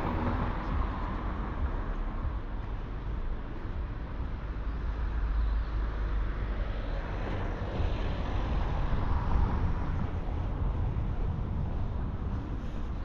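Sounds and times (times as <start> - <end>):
street traffic: 0.0 - 13.0
wind rumble on microphone: 0.0 - 13.0.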